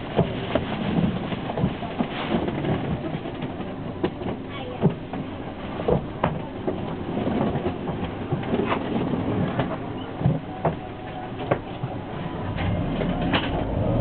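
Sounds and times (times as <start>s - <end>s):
minibus engine humming: 0.0s - 14.0s.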